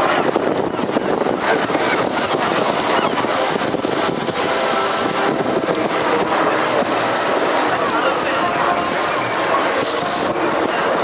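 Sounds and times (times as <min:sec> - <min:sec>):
helicopter flying overhead: 0:00.0 - 0:11.0
wind buffeting microphone: 0:00.0 - 0:11.0.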